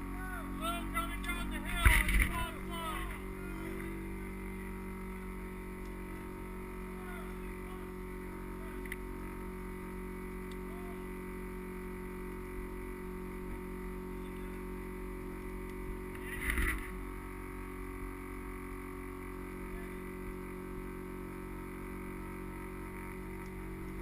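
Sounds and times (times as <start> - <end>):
fan motor hum: 0.0 - 24.0.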